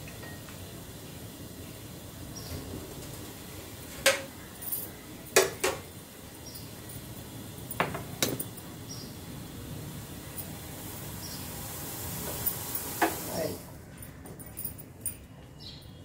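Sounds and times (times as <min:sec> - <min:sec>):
stove hissing: 0:00.0 - 0:13.8.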